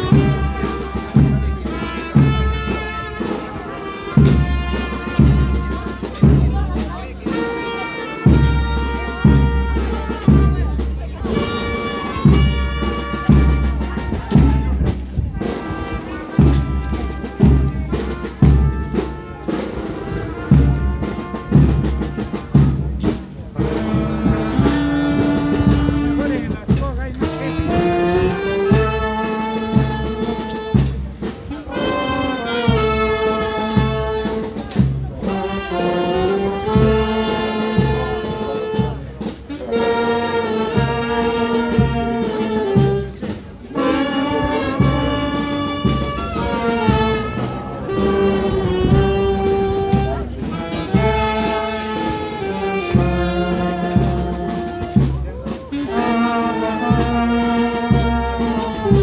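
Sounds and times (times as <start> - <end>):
low drumbeat: 0.0 - 59.0
trumpets and trombones holding chords: 0.0 - 59.0.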